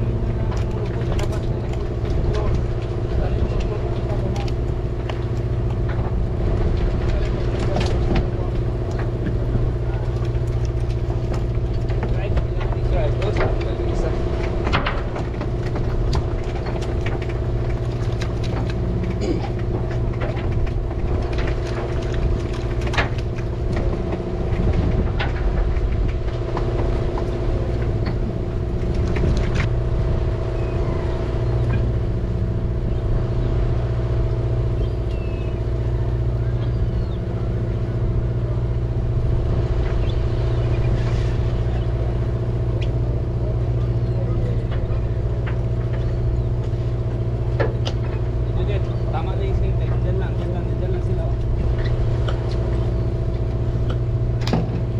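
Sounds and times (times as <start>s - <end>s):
boat engine low drone: 0.0s - 54.9s.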